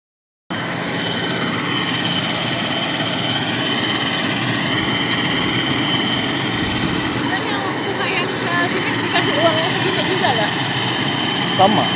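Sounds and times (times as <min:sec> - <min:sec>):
turboprop engine whine: 0:00.5 - 0:11.9.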